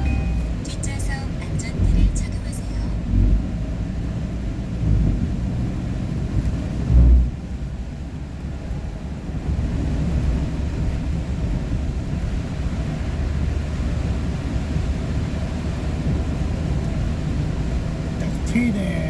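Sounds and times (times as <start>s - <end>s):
vehicle driving rumble: 0.0s - 19.0s.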